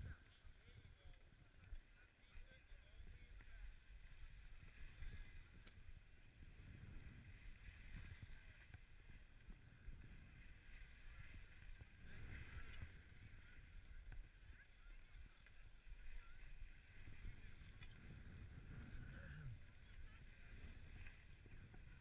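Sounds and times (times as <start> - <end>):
skis sliding over packed snow: 0.0 - 22.0
wind rumble on microphone: 0.0 - 22.0.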